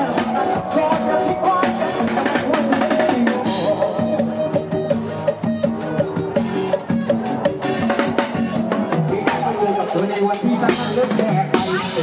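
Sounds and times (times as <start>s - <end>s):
drum kit beat: 0.0s - 12.0s
sustained melody line: 0.0s - 12.0s.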